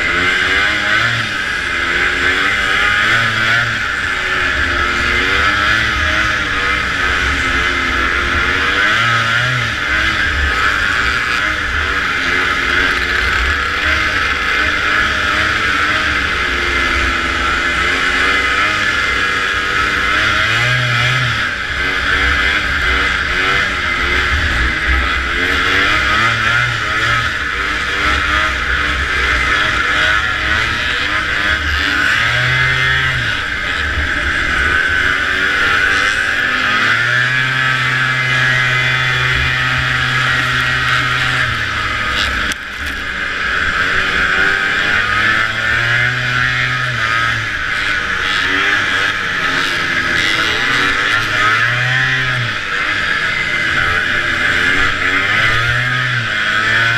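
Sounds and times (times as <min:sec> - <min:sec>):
snowmobile engine running hard: 0:00.0 - 0:56.9
steady rushing noise: 0:00.0 - 0:56.9.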